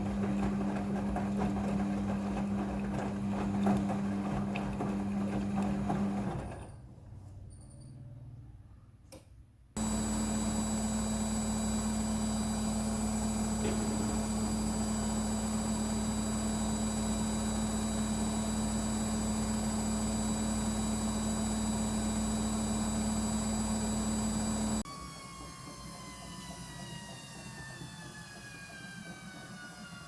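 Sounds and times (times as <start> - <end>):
washing machine spinning: 0.0 - 7.1, 9.8 - 30.0.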